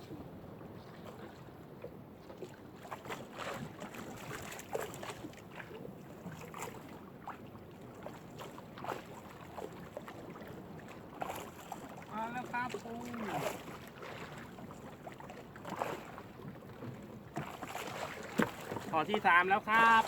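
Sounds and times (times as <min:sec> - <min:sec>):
wind and water noise: 0:00.0 - 0:20.0
water splashes: 0:00.1 - 0:20.0.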